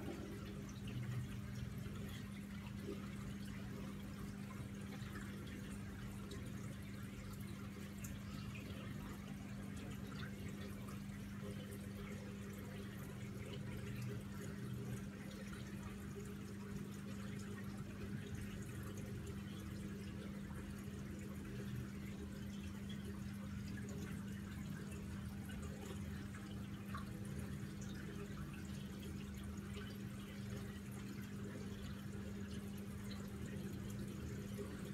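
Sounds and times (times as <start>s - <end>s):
aquarium water bubbling: 0.0s - 34.9s.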